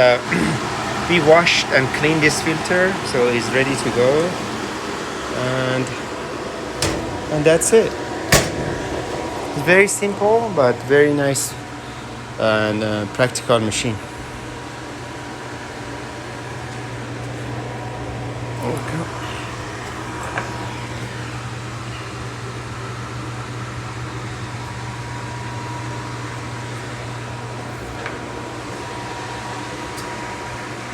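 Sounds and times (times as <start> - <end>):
blower fan humming: 0.0 - 30.9.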